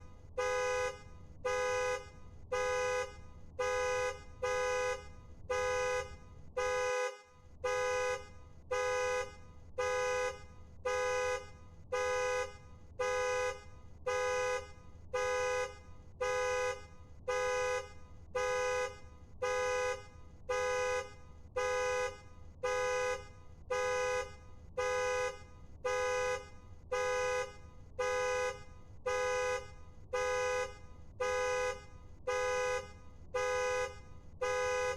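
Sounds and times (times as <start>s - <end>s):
car alarm horn honking: 0.4s - 34.9s.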